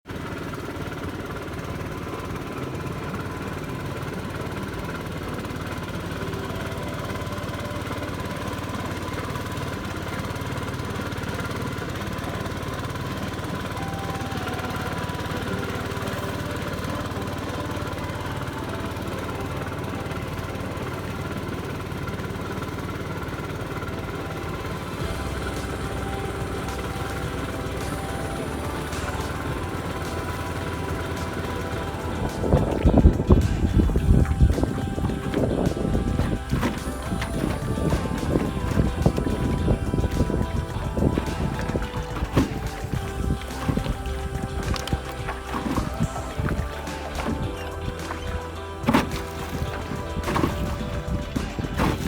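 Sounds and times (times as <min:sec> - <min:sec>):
small boat engine running: 0:00.0 - 0:52.0.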